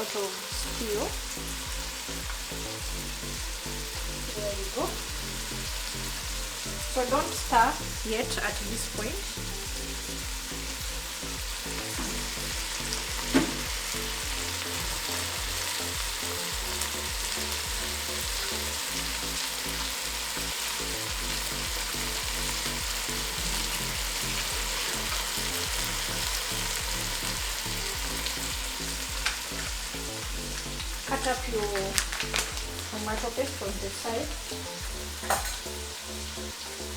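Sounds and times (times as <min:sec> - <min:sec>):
stew sizzling in a pot: 0:00.0 - 0:36.9.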